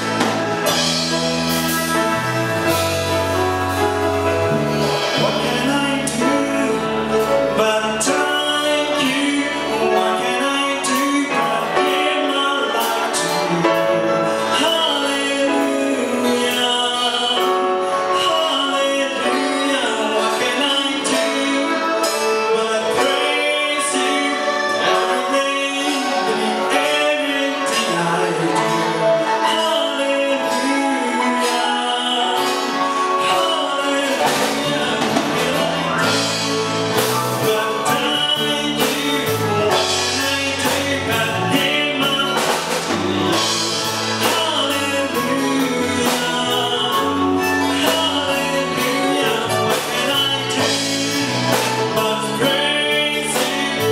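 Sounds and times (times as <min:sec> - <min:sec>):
bass line: 0:00.0 - 0:53.9
drums: 0:00.0 - 0:53.9
instrumental accompaniment: 0:00.0 - 0:53.9
man singing through microphone: 0:00.0 - 0:53.9.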